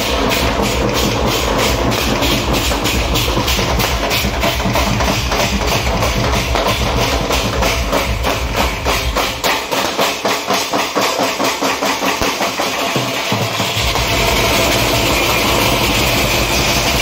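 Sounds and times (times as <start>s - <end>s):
metal drums beaten with sticks: 0.0s - 17.0s.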